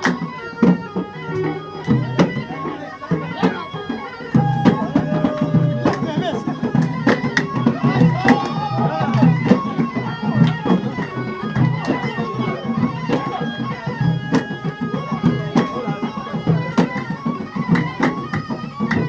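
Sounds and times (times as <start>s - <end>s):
drum beats: 0.0s - 19.0s
loud reed wind instrument: 0.0s - 19.0s.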